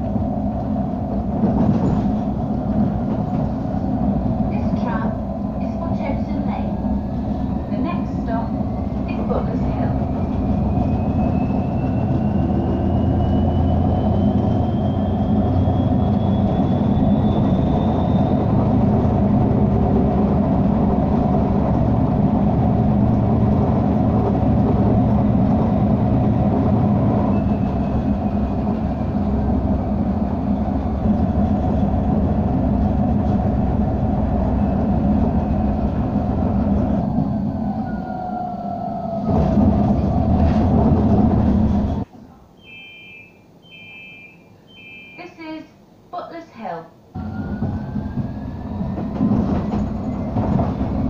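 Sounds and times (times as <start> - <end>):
tram motor whine: 0.0 - 42.0, 47.1 - 51.0
tram wheels rumbling on rail: 0.0 - 42.1, 47.1 - 51.0.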